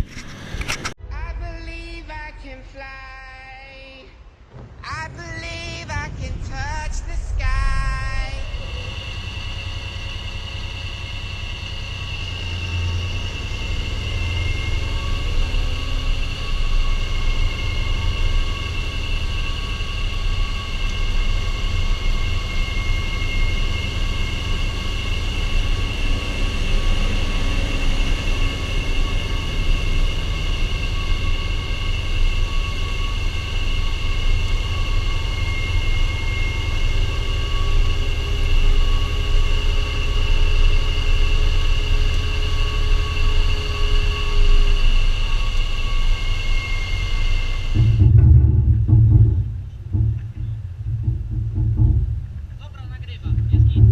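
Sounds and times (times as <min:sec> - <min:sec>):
constant high whine: 0:00.0 - 0:53.9
tractor diesel engine rumble: 0:00.0 - 0:53.9.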